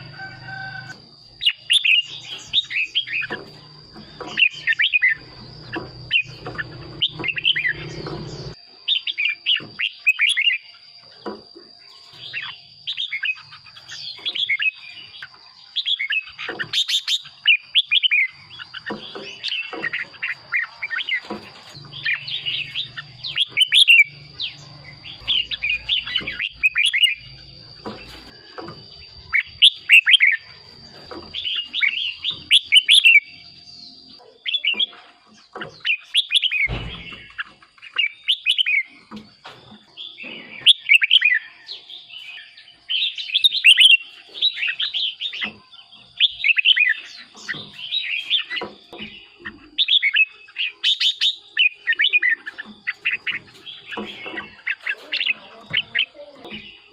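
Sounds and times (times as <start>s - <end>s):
bird song warbling: 0.0s - 56.9s.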